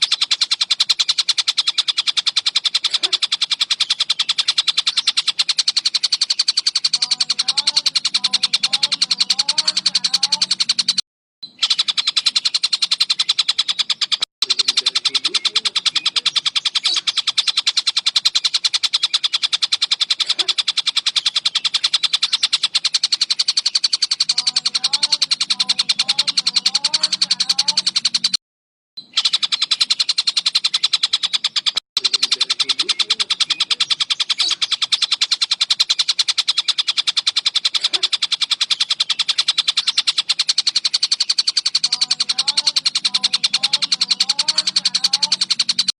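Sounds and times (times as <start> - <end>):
kingfisher rattling trill: 0.0 - 28.4, 29.0 - 46.0.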